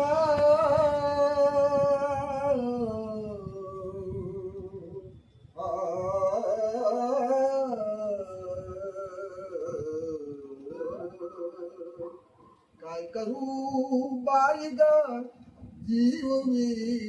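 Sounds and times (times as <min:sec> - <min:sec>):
old man singing wordless notes: 0:00.0 - 0:17.0.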